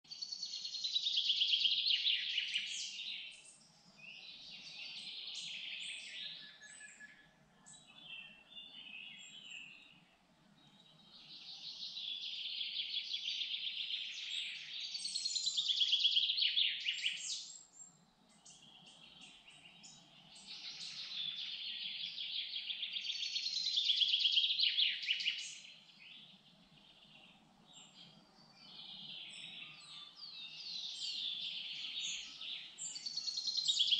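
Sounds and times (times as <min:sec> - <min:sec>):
bird chirps: 0:00.1 - 0:10.0, 0:10.6 - 0:33.9
songbird trilling song: 0:00.1 - 0:33.9.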